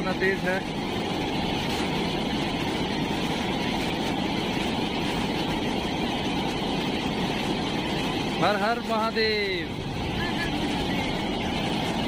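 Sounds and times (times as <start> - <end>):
water rushing over boulders: 0.0 - 12.0.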